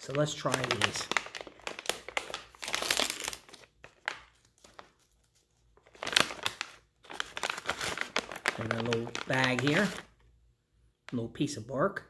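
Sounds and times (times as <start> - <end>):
plastic snack bag crinkling: 0.0 - 10.3.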